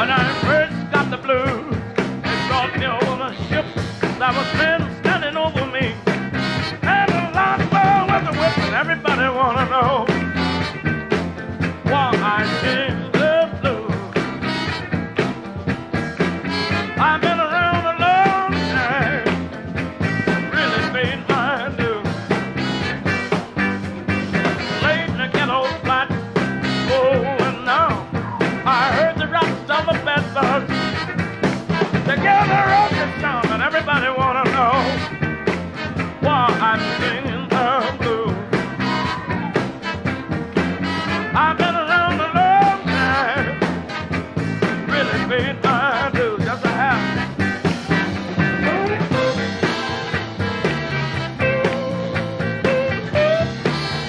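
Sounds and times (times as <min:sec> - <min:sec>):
upbeat song with singing: 0:00.0 - 0:54.0.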